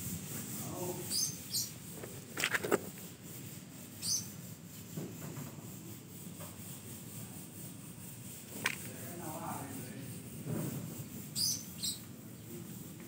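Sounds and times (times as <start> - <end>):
rubbing and rustling handling noise: 0.0 - 11.3.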